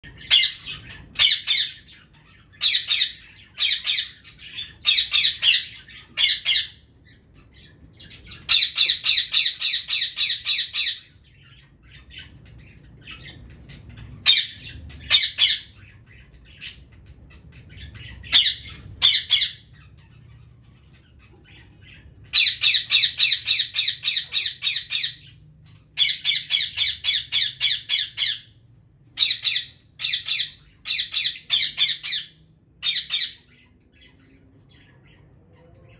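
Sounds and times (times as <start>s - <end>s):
parakeets calling shrilly: 0.0s - 35.9s.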